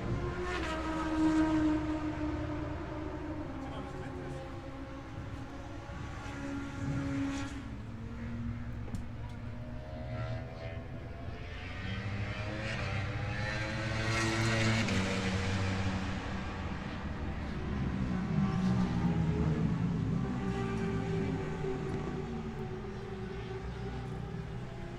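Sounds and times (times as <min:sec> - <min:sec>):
motorcycle engines revving: 0:00.0 - 0:24.9.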